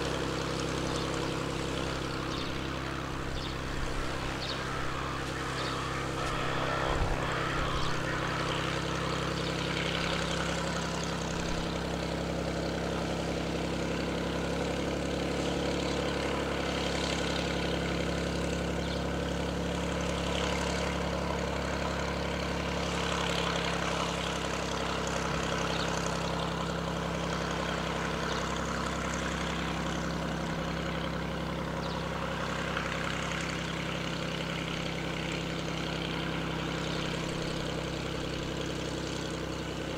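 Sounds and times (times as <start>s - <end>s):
aircraft piston engine and propeller: 0.0s - 39.9s.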